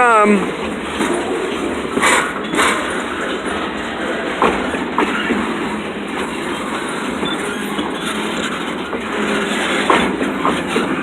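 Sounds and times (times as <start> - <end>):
freight train rolling past: 0.0 - 11.0
wheels clacking over rail joints: 0.0 - 11.0.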